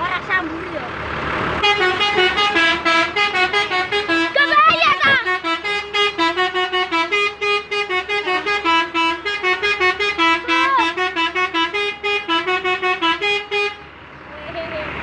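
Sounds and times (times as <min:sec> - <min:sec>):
multi-tone air horn tune: 0:01.6 - 0:13.9.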